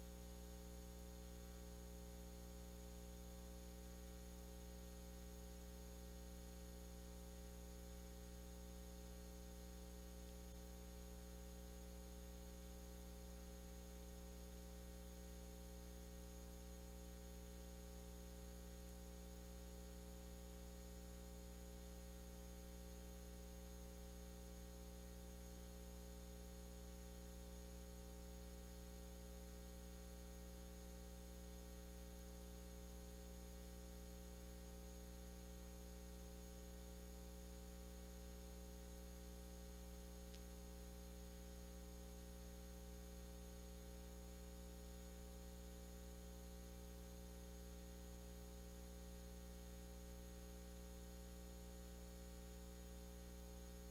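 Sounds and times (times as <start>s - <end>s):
faint electrical hum: 0.0s - 53.9s.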